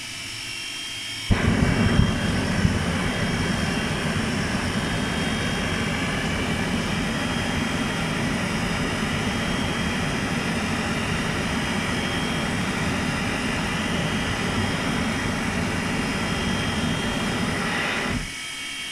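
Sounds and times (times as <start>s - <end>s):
faint high whine: 0.0s - 18.9s
gas burner rushing: 1.3s - 18.3s.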